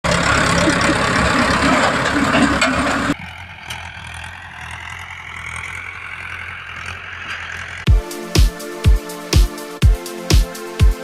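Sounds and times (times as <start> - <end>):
tractor diesel engine running: 0.0 - 10.2.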